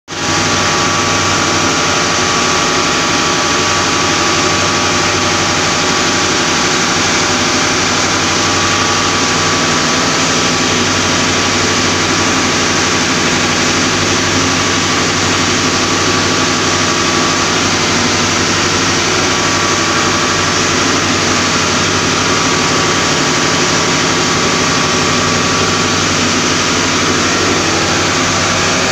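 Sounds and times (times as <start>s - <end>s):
engine room machinery din: 0.1s - 28.9s.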